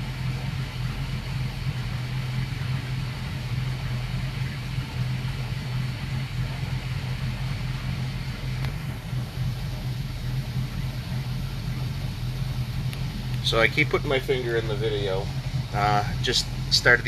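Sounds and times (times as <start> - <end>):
boat engines idling: 0.0 - 17.0.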